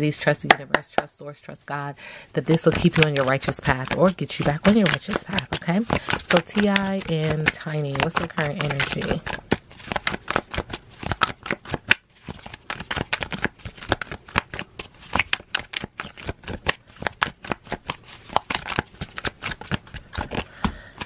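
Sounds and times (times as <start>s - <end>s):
cards being shuffled: 2.4s - 21.0s.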